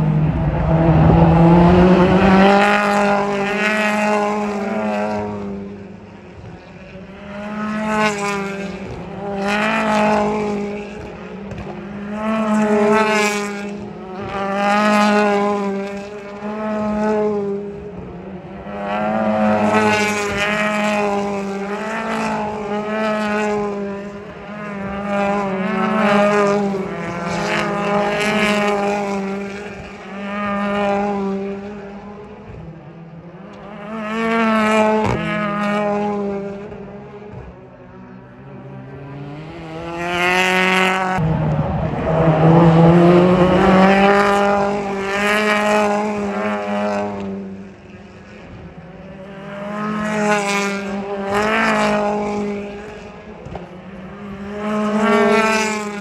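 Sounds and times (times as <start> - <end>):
race cars accelerating past: 0.0 - 56.0.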